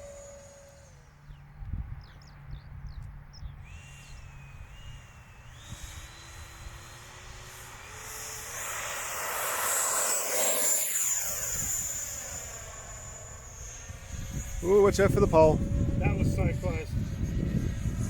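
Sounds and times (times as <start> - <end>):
model jet fan whine: 0.0 - 18.0.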